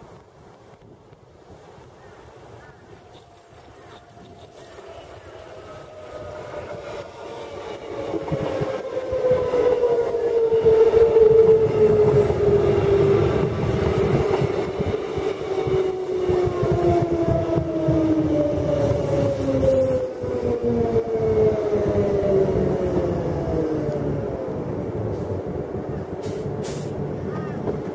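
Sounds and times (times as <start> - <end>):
train wheels rumbling on rails: 2.9 - 27.9.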